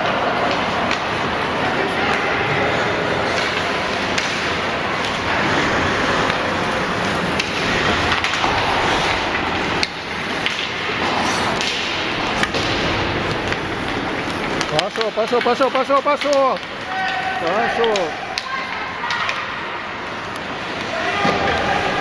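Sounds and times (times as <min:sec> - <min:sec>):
skates scraping on ice: 0:00.0 - 0:19.7
hockey sticks and puck clacking: 0:00.0 - 0:22.0.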